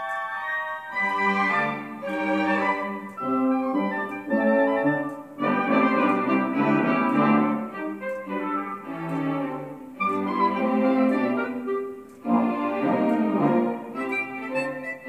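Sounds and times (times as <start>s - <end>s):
instrumental music with held chords: 0.0s - 15.0s.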